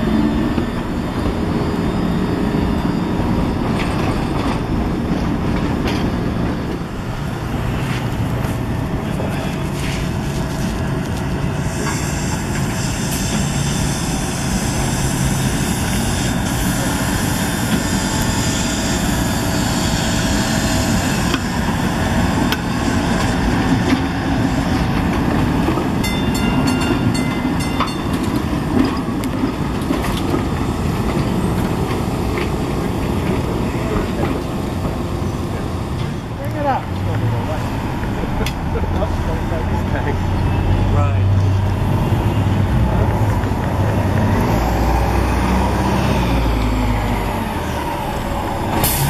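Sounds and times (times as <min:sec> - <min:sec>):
light rail wheels rumbling on rail: 0:00.0 - 0:49.0.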